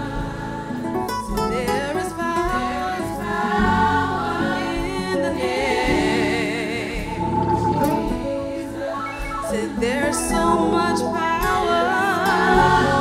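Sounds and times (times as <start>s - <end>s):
gospel singing: 0.0s - 13.0s
held keyboard chords: 0.0s - 13.0s.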